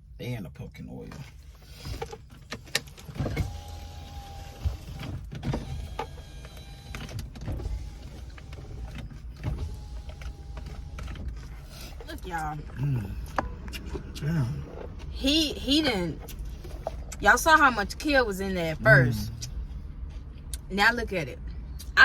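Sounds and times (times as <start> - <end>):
car cabin rumble: 0.9 - 20.1.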